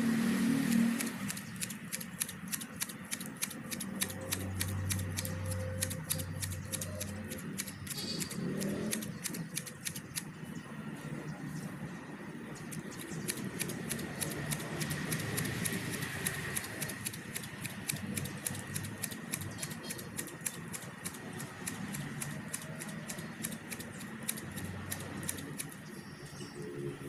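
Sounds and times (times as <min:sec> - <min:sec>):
scissors snipping grass: 0:00.4 - 0:10.4, 0:12.6 - 0:25.9.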